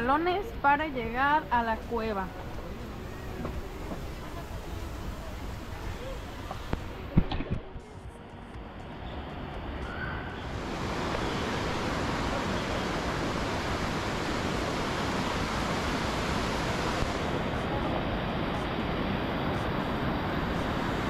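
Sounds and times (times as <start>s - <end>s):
river water rushing: 0.0s - 7.2s, 8.8s - 21.0s.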